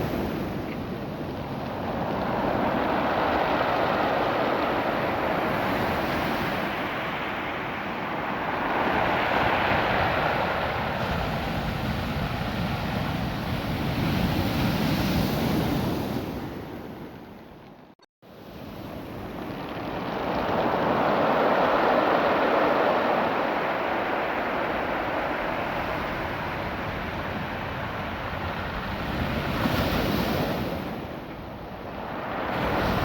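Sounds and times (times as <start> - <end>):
surf washing over stones: 0.0 - 13.0, 18.6 - 33.0.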